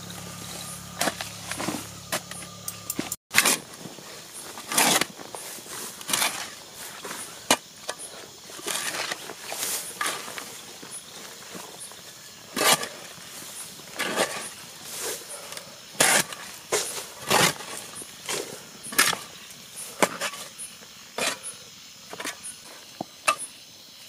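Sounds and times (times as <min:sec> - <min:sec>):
digging tool scraping ground: 0:00.0 - 0:23.5.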